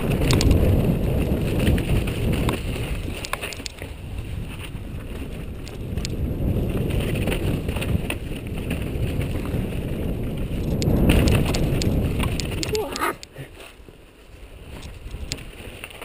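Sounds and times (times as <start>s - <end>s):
wind buffeting microphone: 0.0s - 13.4s, 14.4s - 16.0s
tyres rolling over rock: 0.0s - 14.0s
bike knocking and rattling: 0.0s - 16.0s.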